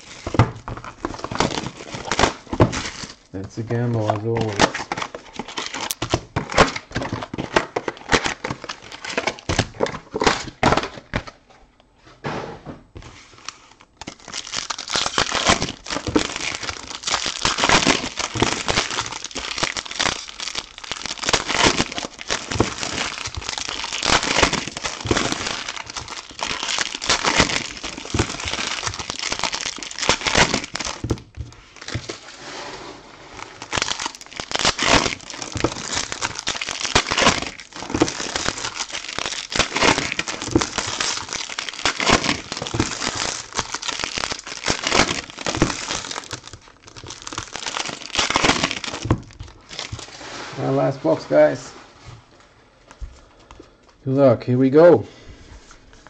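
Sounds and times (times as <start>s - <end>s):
plastic wrappers crinkling: 0.0s - 11.4s, 13.2s - 32.3s, 33.3s - 51.6s.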